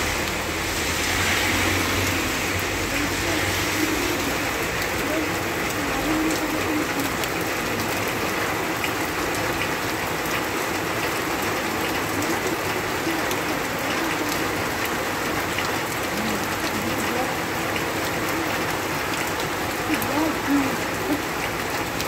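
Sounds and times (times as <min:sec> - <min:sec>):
heavy rain on road: 0:00.0 - 0:22.0
raindrops ticking on surfaces: 0:00.0 - 0:22.0.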